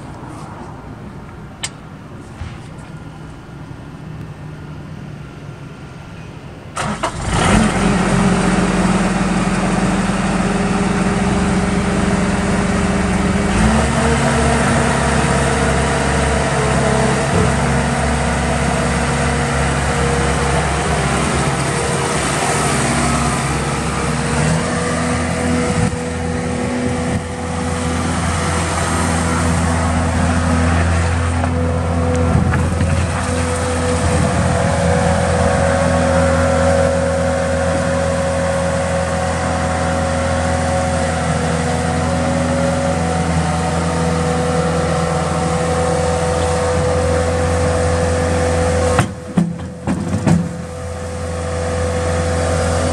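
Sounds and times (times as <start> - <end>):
diesel loader engine running: 1.1 - 52.9.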